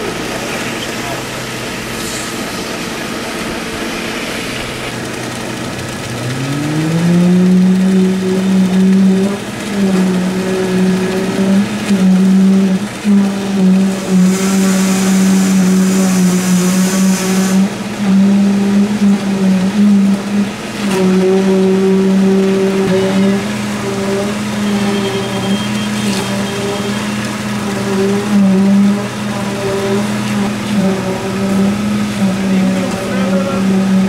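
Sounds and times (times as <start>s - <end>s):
concrete pump drone: 0.0s - 34.0s
concrete vibrator high hum: 0.0s - 34.0s.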